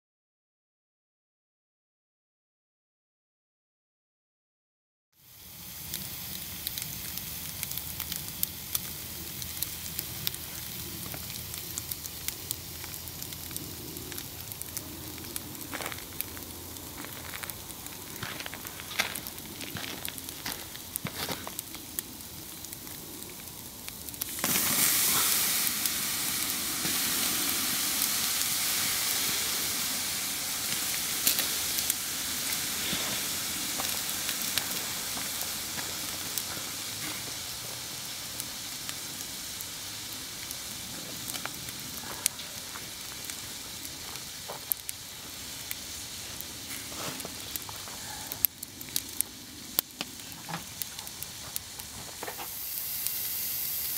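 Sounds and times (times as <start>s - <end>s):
steak sizzling on grill: 5.2s - 53.9s.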